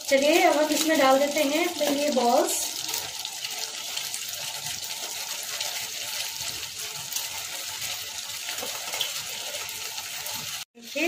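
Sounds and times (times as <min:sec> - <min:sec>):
gravy simmering in a frying pan: 0:00.0 - 0:11.0.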